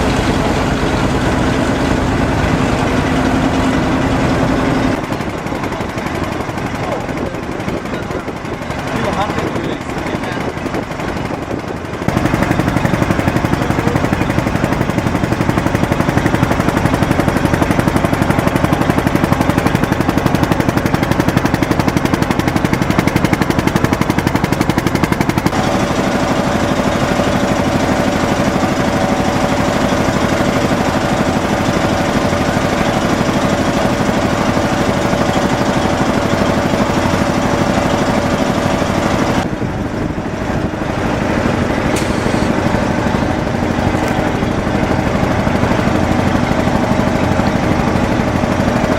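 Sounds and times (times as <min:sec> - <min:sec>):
engine running with pulsing beat: 0:00.0 - 0:48.9.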